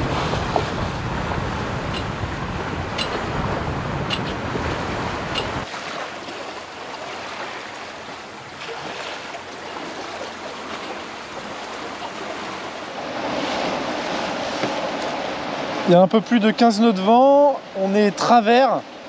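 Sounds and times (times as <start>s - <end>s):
wind rumbling on microphone: 0.0s - 15.8s
sea water rushing past hull: 0.0s - 19.0s.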